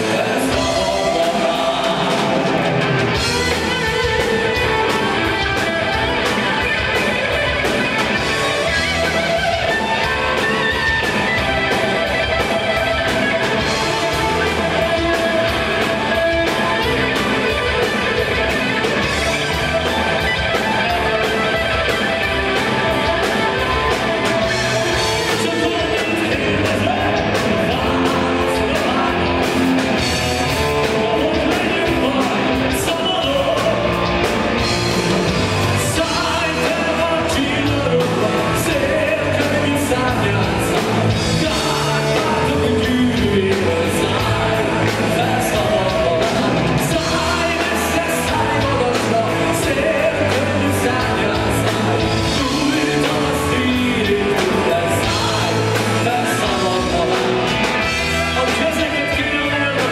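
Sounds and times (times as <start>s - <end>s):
bass guitar: 0.0s - 59.9s
electric guitar: 0.0s - 59.9s
keyboards: 0.0s - 59.9s
man singing: 0.0s - 59.9s
steady drum beat: 0.0s - 59.9s.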